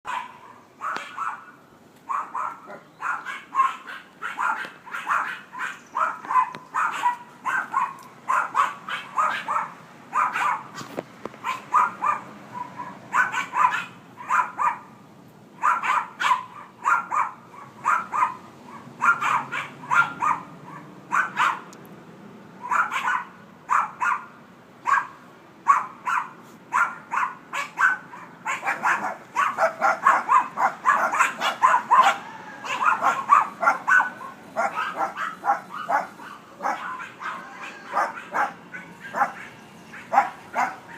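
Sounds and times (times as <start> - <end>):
dog barking: 0.1 - 10.8, 11.4 - 14.9, 15.6 - 21.7, 22.6 - 40.9.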